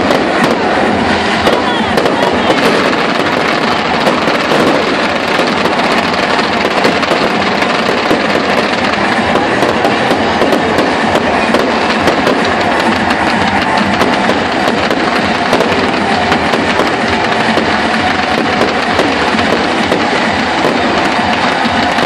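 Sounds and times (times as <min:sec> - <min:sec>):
fireworks crackling and popping: 0:00.0 - 0:22.0.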